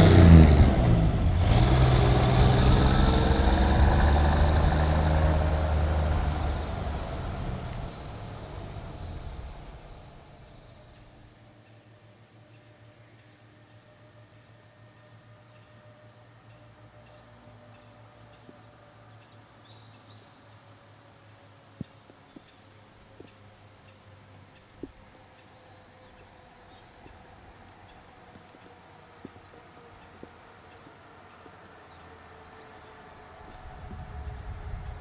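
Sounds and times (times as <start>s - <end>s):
vehicle engine rumble: 0.0s - 11.6s, 14.1s - 35.0s
insects buzzing: 0.0s - 35.0s.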